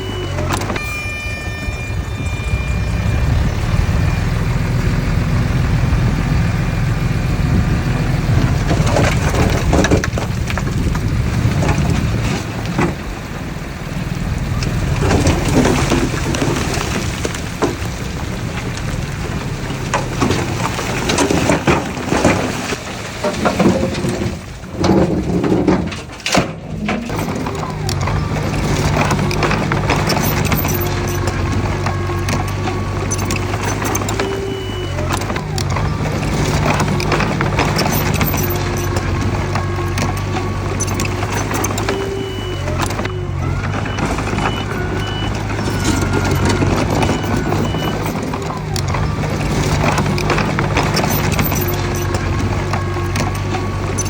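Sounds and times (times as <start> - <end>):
machine engine low rumble: 0.0 - 54.0
soil and stones crunching: 0.0 - 54.0.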